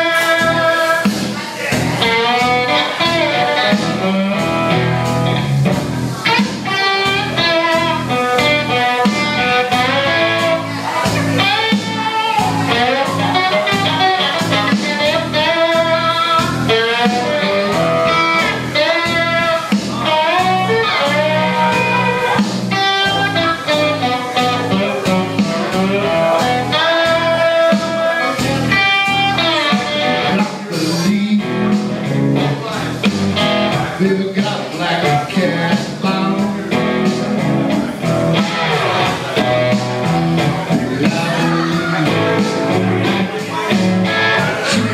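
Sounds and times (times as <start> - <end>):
bass and drums backing track: 0.0 - 44.9
resonator guitar: 0.0 - 44.9.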